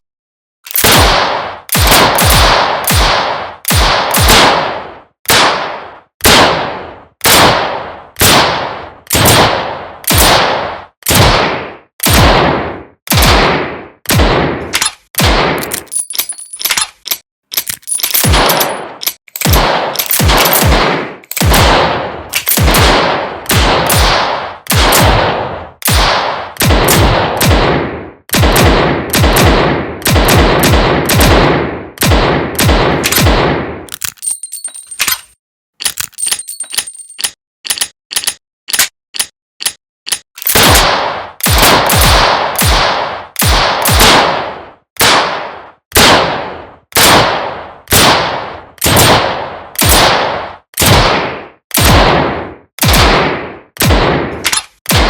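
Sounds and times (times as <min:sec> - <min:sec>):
revolver gunshots echoing: 0:00.7 - 0:15.9, 0:18.1 - 0:33.9, 0:40.4 - 0:55.0.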